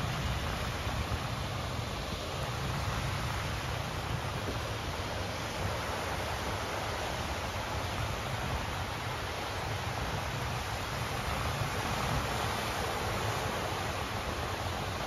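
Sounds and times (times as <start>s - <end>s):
surf washing on a beach: 0.0s - 15.0s.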